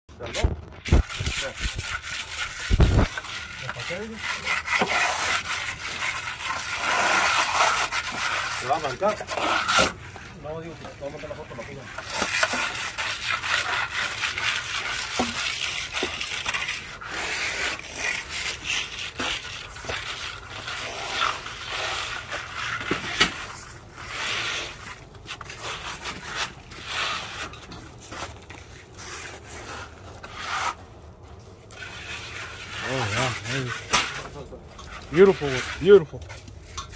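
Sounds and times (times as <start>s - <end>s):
trowel scraping stucco: 0.2s - 36.9s.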